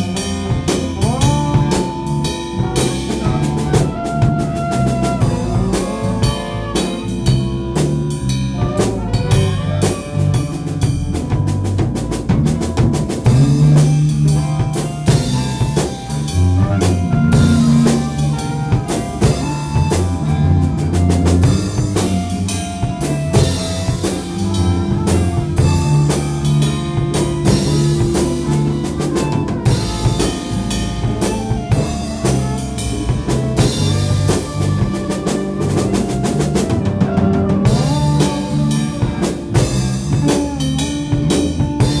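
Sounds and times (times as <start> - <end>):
band jamming: 0.0 - 42.0
drum kit beat: 0.0 - 42.0
guitars: 0.0 - 42.0.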